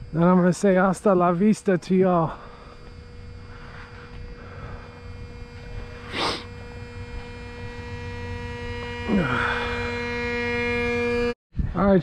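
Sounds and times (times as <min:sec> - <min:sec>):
electrical hum: 0:00.0 - 0:11.4.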